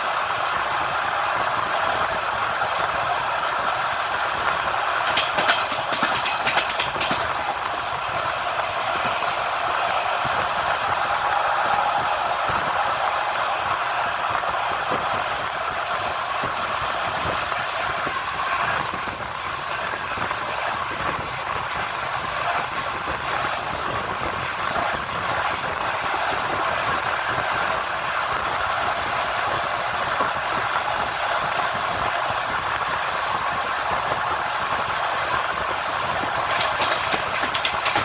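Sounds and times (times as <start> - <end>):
train wheels on rails: 0.0 - 38.0.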